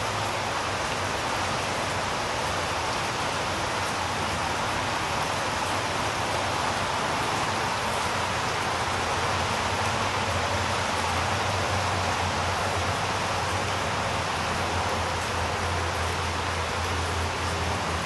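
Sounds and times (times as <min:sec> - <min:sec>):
rain on concrete pavement: 0:00.0 - 0:18.0.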